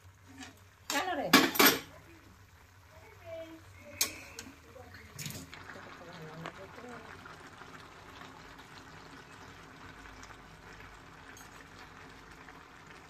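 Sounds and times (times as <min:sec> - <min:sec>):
stew bubbling in a wok: 0:00.0 - 0:13.0.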